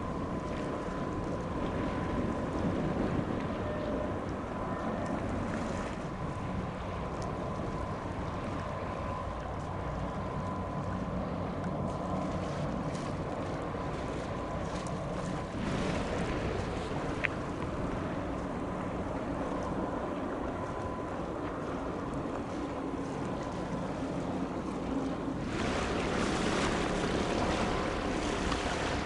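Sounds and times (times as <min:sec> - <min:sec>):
steady low rumble: 0:00.0 - 0:29.0
thin steady whine: 0:00.0 - 0:29.0
wind buffeting microphone: 0:00.0 - 0:29.0.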